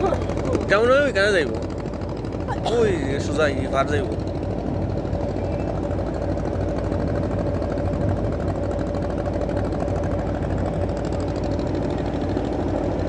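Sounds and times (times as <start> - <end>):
motor boat engine chugging: 0.0 - 13.0.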